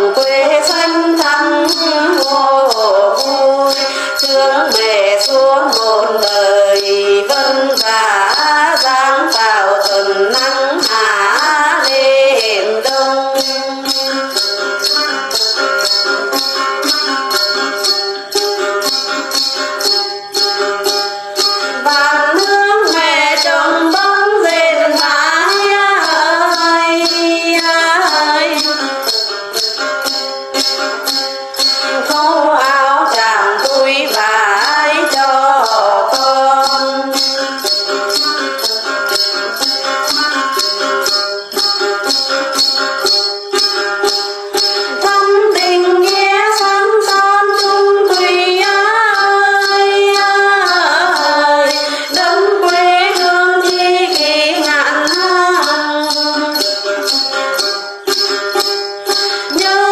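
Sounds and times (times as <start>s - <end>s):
woman singing: 0.0s - 18.2s, 20.9s - 29.7s, 31.6s - 40.2s, 44.6s - 58.3s, 59.1s - 59.9s
gourd lute playing: 0.0s - 59.9s
shaken jingles: 0.0s - 59.9s.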